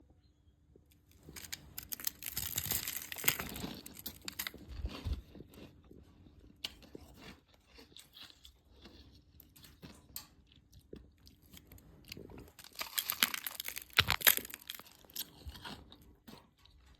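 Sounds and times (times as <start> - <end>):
ice being chewed: 1.0 - 16.9.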